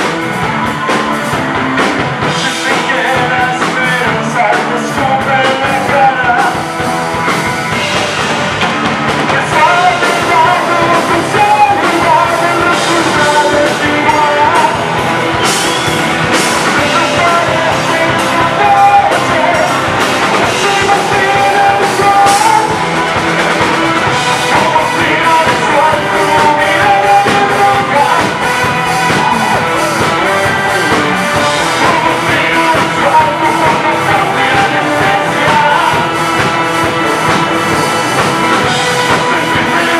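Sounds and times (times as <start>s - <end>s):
bass guitar: 0.0s - 39.9s
drum kit: 0.0s - 39.9s
electric guitar: 0.0s - 39.9s
person singing through pa: 2.2s - 6.8s, 9.2s - 23.2s, 23.8s - 39.9s.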